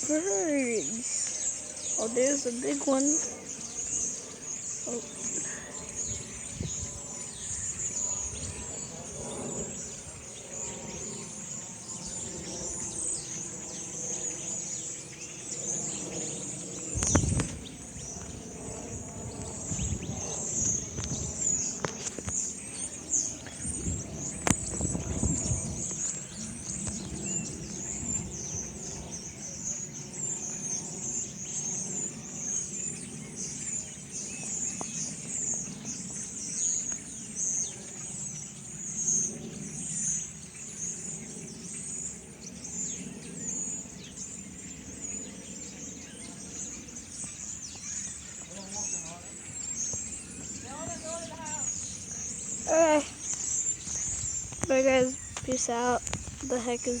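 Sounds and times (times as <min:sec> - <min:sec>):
flock of small birds chattering: 0:00.0 - 0:57.0.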